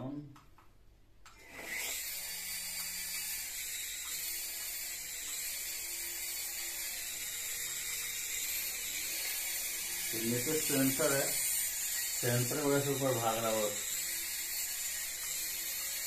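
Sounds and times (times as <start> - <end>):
toy helicopter rotor whining: 1.4 - 16.0.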